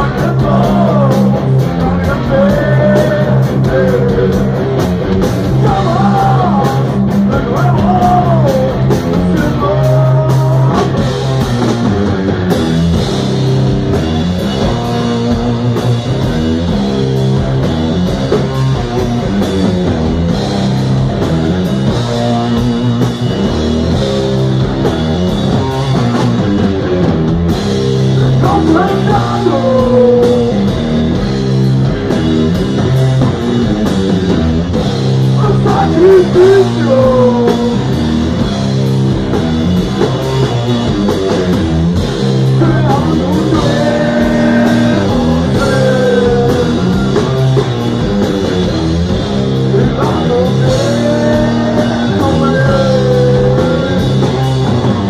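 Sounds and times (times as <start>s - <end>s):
heavy rock band playing: 0.0s - 55.0s.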